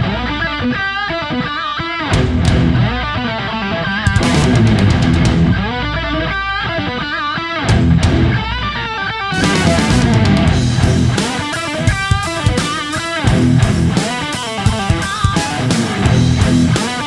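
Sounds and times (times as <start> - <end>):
drums: 0.0 - 17.0
electric guitar: 0.0 - 17.0.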